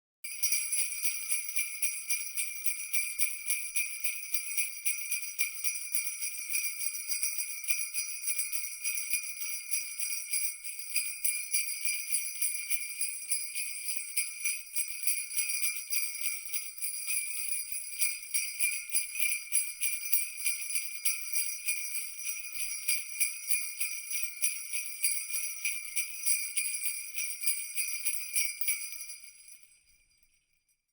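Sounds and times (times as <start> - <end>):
jingle bells shaken: 0.3 - 30.6.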